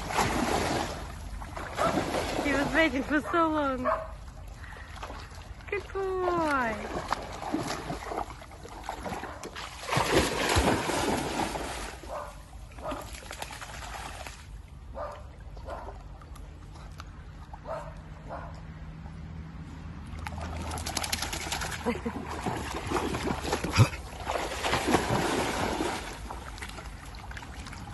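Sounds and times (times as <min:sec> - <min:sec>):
dog splashing through stream: 0:00.0 - 0:14.6, 0:20.1 - 0:27.9.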